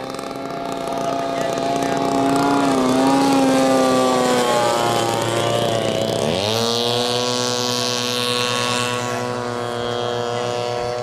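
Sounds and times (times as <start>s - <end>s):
model plane engine: 0.0s - 11.0s.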